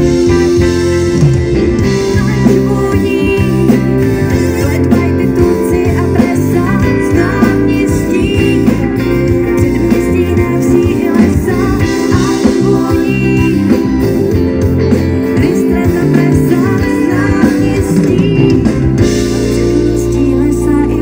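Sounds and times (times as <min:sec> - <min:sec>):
bass: 0:00.0 - 0:21.0
guitar: 0:00.0 - 0:21.0
woman singing: 0:01.8 - 0:14.4, 0:15.2 - 0:21.0.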